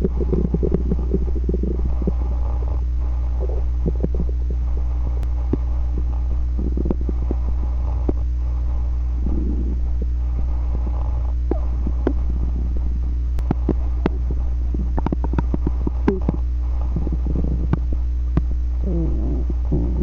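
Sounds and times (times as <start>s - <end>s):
steady low hum: 0.0s - 20.0s
stomach growling: 0.0s - 20.0s.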